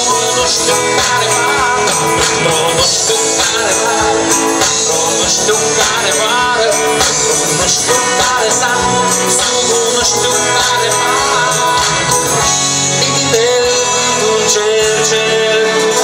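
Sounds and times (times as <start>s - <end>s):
amplified guitars: 0.0s - 16.0s
drums with steady beat: 0.0s - 16.0s
live rock band: 0.0s - 16.0s.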